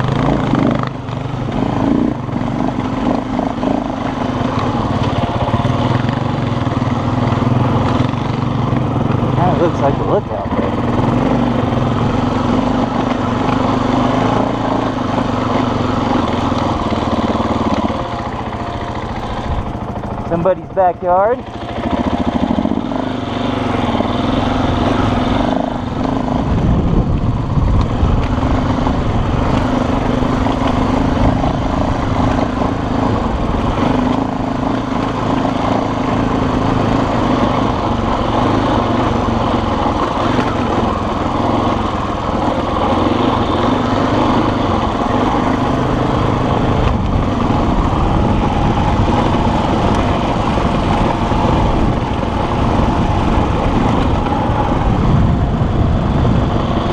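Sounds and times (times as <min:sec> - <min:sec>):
off-road vehicle engine running: 0:00.0 - 0:56.9.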